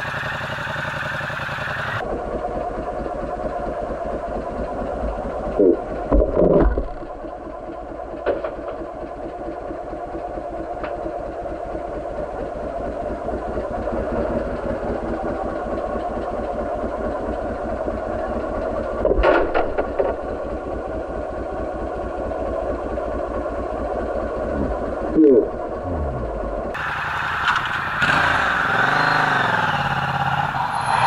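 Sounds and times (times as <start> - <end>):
motorcycle engine bursts: 0.0 - 31.0
motorcycle engine idling: 0.0 - 31.0.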